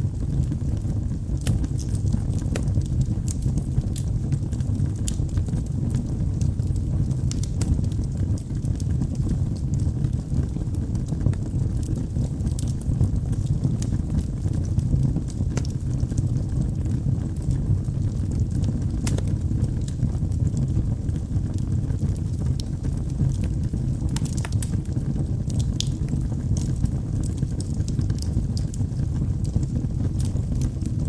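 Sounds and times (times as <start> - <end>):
fire flames rumbling: 0.0 - 31.0
wood crackling and popping: 0.0 - 31.0.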